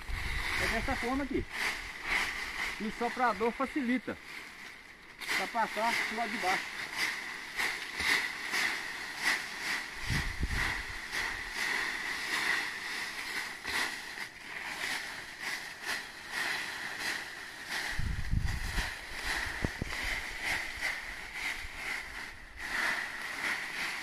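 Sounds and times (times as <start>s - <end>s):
rake scraping through dry leaves: 0.0s - 24.0s.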